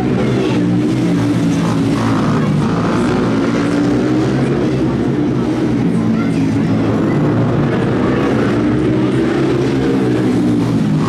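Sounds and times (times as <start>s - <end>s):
small engines racing: 0.0s - 11.0s.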